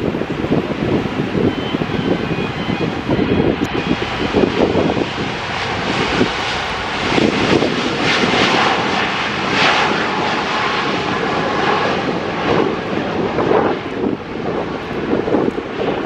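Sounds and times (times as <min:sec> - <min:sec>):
airliner engines running: 0:00.0 - 0:16.0.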